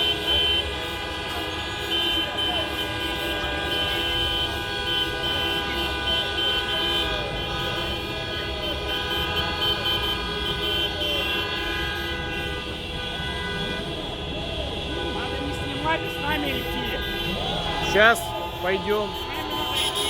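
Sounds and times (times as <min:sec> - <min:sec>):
high horn tooting: 0:00.0 - 0:20.0
many horns honking: 0:00.0 - 0:20.0.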